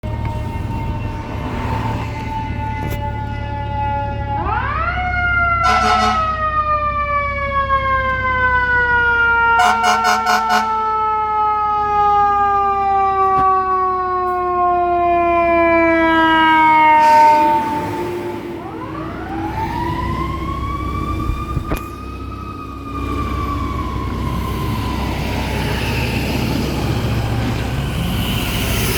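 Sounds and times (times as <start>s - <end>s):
fire engine siren wailing: 0.0s - 28.9s
fire truck engine: 0.0s - 28.9s
road noise: 0.0s - 28.9s.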